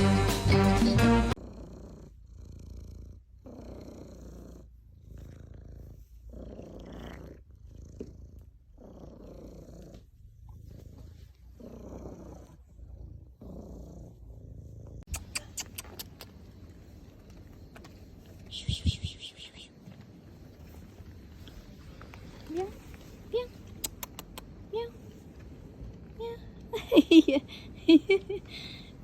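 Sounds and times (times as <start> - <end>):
cat purring: 1.3 - 29.0.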